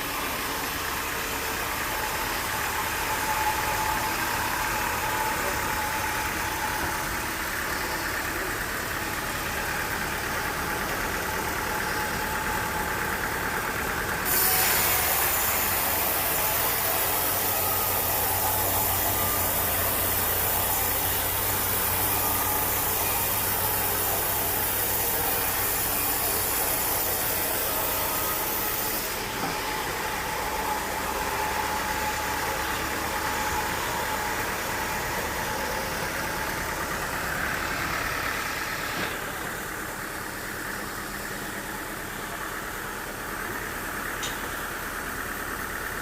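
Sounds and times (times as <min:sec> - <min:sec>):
engine running: 0:00.0 - 0:46.0.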